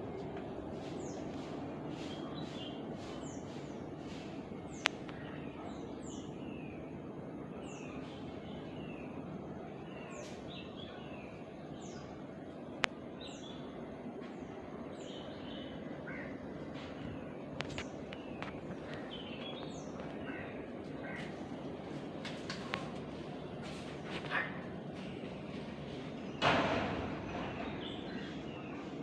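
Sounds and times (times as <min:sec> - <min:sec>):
outdoor background noise: 0:00.0 - 0:29.0
small birds chirping: 0:00.1 - 0:26.5, 0:27.1 - 0:29.0.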